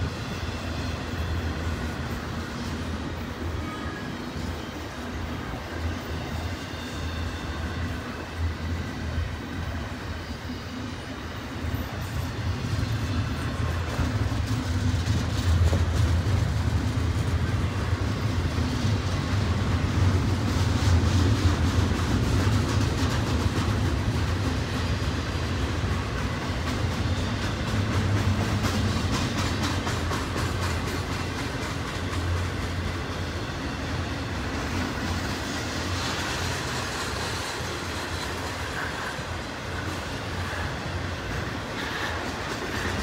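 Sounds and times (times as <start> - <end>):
steel wheels rumbling on rail: 0.0 - 43.0.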